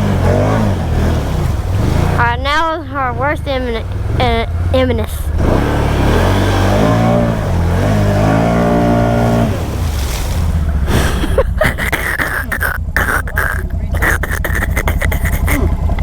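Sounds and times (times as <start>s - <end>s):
atv engine revving: 0.0s - 16.0s
water splashing: 0.0s - 16.0s.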